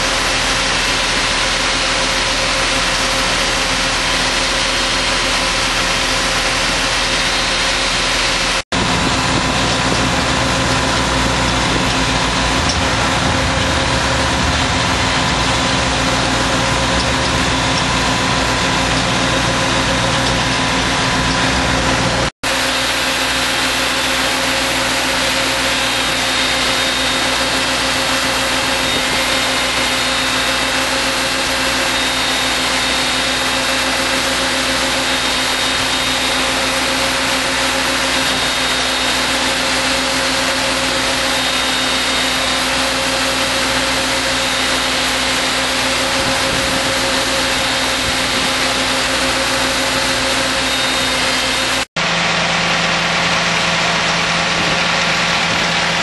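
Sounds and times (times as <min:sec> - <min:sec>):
machine engine drone with whining: 0:00.0 - 0:56.0.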